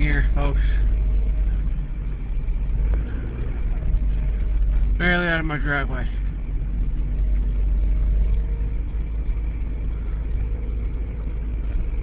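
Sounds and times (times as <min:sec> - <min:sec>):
car engine running: 0:00.0 - 0:12.0
road rumble: 0:00.0 - 0:12.0.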